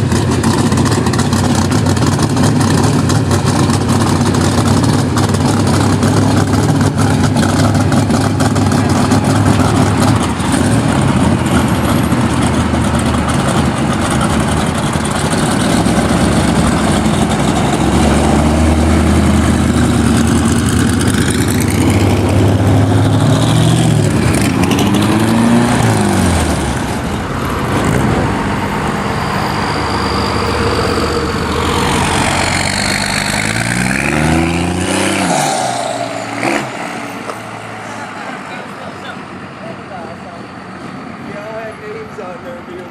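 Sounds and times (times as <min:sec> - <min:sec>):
vehicle engine revving: 0:00.0 - 0:39.4.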